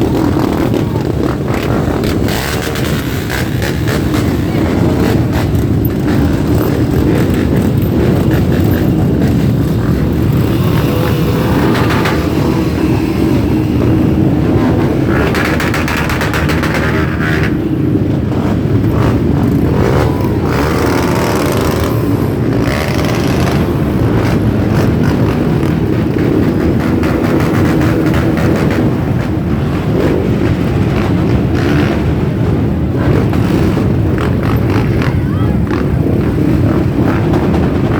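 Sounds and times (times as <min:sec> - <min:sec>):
many motorcycle engines running: 0:00.0 - 0:37.9.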